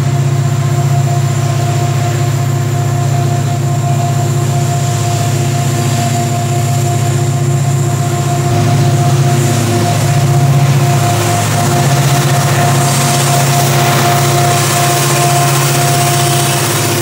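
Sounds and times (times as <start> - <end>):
diesel locomotive engines droning: 0.0 - 17.0
thin whine: 0.0 - 17.0.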